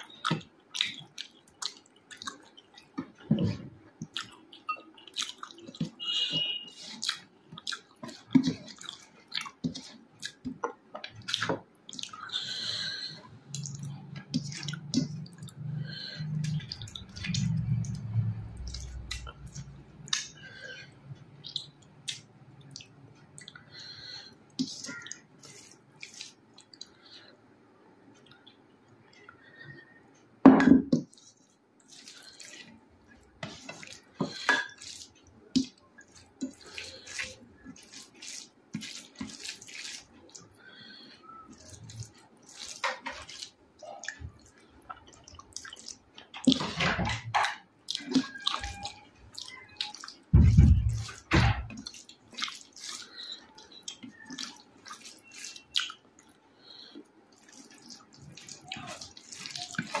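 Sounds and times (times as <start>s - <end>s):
wet chewing sounds: 0.0s - 27.3s, 30.9s - 60.0s.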